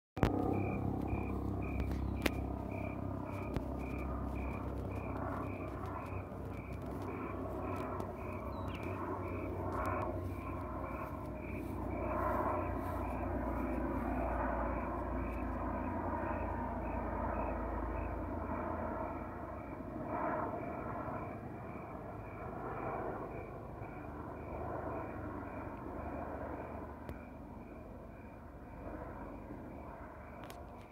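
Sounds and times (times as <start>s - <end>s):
helicopter flying past: 0.2s - 30.9s.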